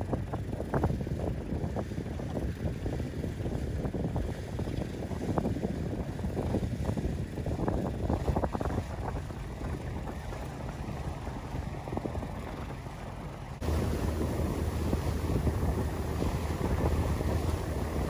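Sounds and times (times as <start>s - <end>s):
small boat motor rumble: 0.0s - 18.0s
wind buffeting microphone: 0.0s - 18.0s.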